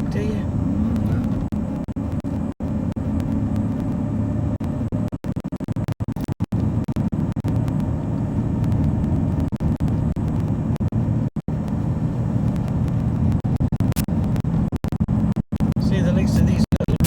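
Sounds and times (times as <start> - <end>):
road noise: 0.0 - 17.0
truck engine droning: 0.0 - 17.0.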